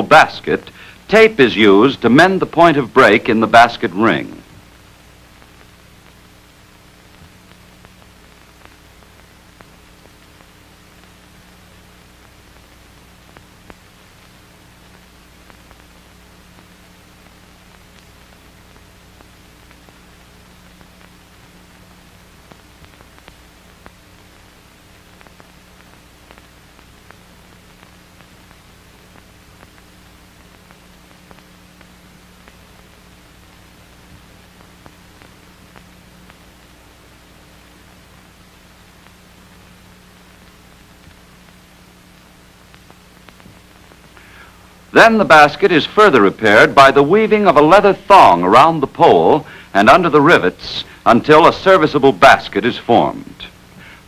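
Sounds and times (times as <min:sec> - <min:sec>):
film soundtrack hiss and hum: 0:00.0 - 0:54.0
faint clicks and crackles: 0:04.1 - 0:49.8.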